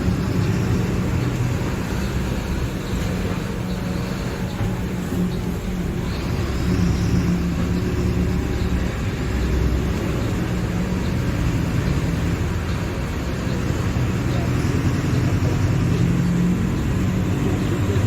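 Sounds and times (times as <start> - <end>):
diesel bus engine humming: 0.0 - 18.0.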